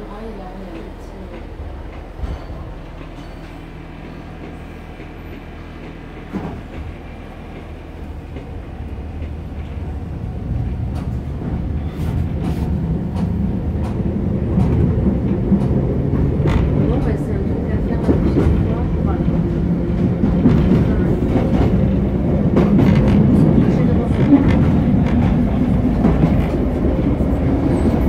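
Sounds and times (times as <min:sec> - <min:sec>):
rail-joint clicks: 0:00.1 - 0:28.0.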